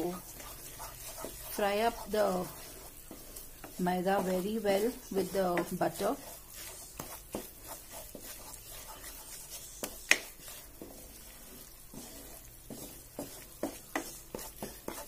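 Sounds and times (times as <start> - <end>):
faint sizzle of frying flour: 0.0 - 15.0
wooden spatula scraping pan: 0.0 - 15.0.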